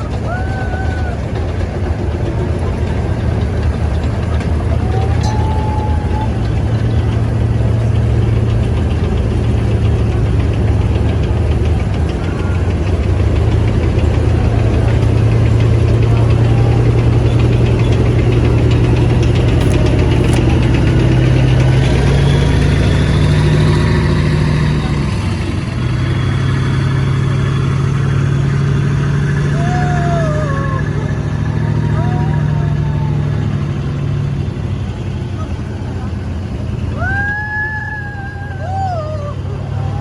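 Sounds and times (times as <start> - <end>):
heavy vehicle engines running: 0.0 - 40.0.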